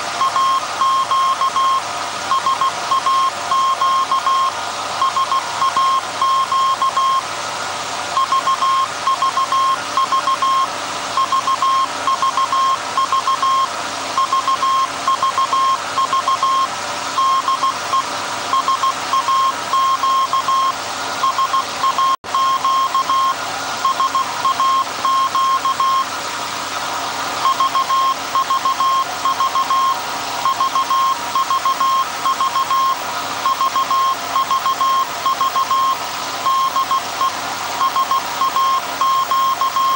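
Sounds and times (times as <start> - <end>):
machine hum and hiss: 0.0 - 39.9
morse code beeps: 0.2 - 7.2, 8.2 - 26.1, 27.4 - 39.9.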